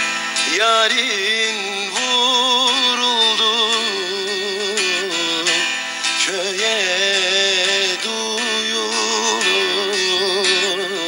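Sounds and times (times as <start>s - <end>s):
person singing ornamented notes: 0.0s - 11.0s
plucked string instrument: 0.0s - 11.0s.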